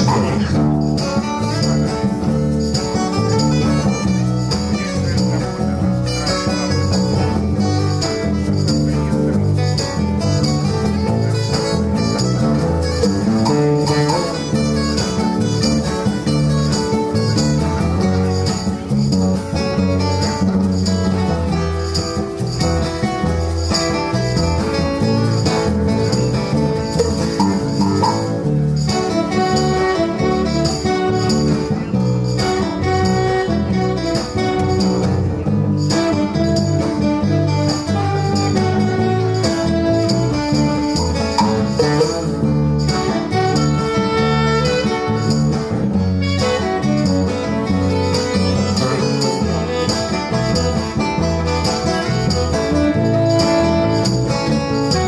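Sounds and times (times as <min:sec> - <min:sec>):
guitar: 0:00.0 - 0:55.0
live band playing: 0:00.0 - 0:55.0.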